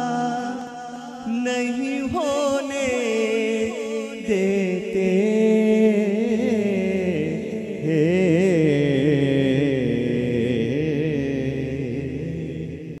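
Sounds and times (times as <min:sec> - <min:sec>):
men singing into microphones: 0:00.0 - 0:13.0.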